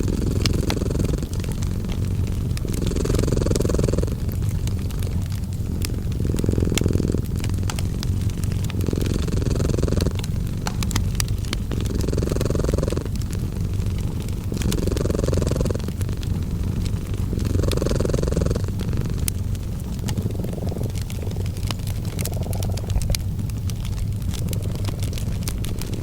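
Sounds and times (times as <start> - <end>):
cat purring: 0.0 - 26.0
wood fire crackling and popping: 0.0 - 26.0.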